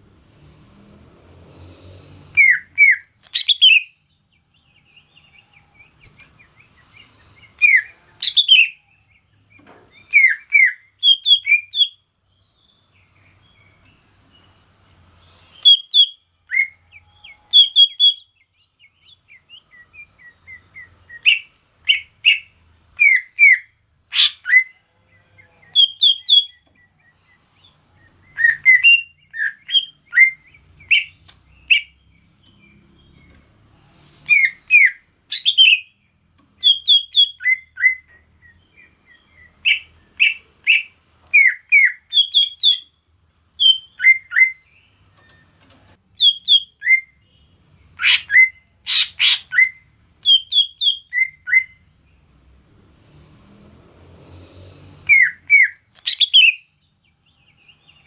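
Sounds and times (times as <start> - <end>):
bird singing whistled notes: 2.3 - 14.6, 15.2 - 33.4, 34.2 - 36.0, 36.6 - 43.0, 43.6 - 45.6, 46.2 - 47.4, 48.0 - 51.9, 55.0 - 58.0.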